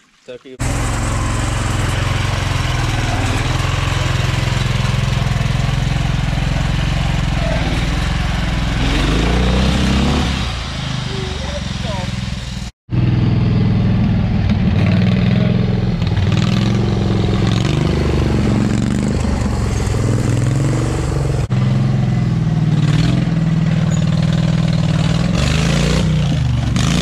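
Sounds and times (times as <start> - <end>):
lawn mower engine revving: 0.6 - 27.0.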